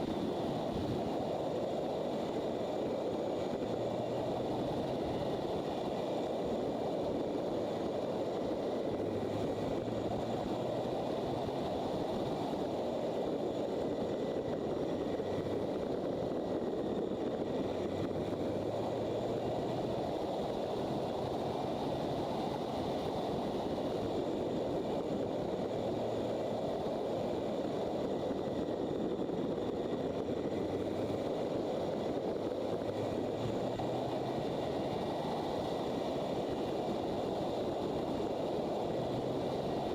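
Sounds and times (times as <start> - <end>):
low motorcycle engine hum: 0.0 - 39.9
wind and road noise: 0.0 - 39.9.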